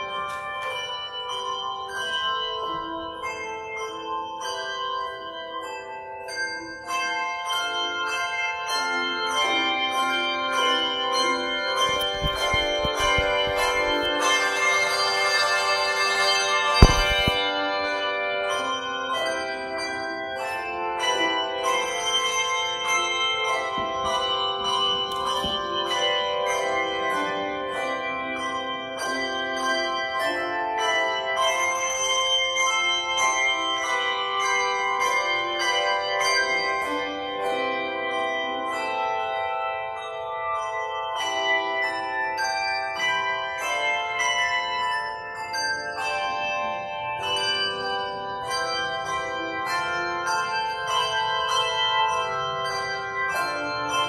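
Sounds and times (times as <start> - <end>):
handbell choir playing: 0.0 - 16.7, 17.6 - 54.0.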